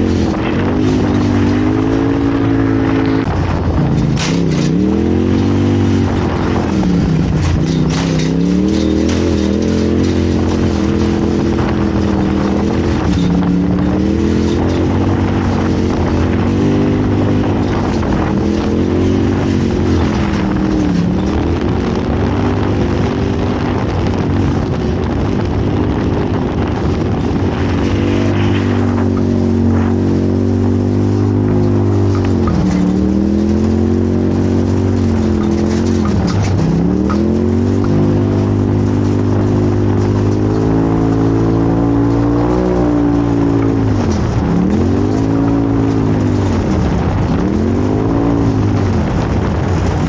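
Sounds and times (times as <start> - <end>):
race vehicle engine running hard: 0.0 - 50.0
rushing rattling noise: 0.0 - 50.0.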